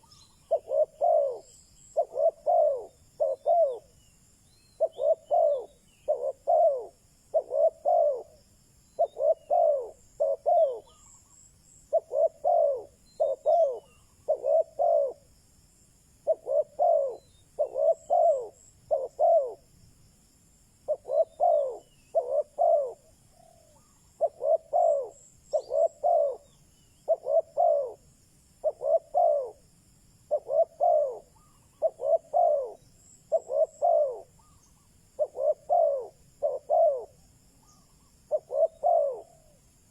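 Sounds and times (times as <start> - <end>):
dove cooing: 0.0 - 4.0, 4.8 - 8.4, 9.0 - 15.3, 16.2 - 19.6, 20.9 - 29.6, 30.3 - 39.6.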